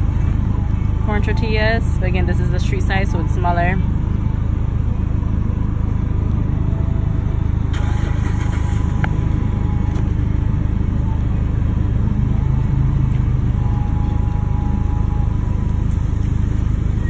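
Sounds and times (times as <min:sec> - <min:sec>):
faint constant tone: 0:00.0 - 0:17.0
low engine rumble: 0:00.0 - 0:17.0.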